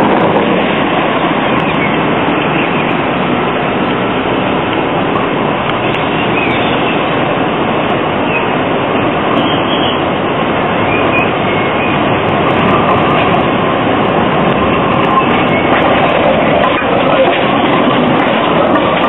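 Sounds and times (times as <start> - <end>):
city traffic: 0.0 - 19.0
tram running on street track: 0.0 - 19.0
tram wheels squealing: 0.0 - 19.0.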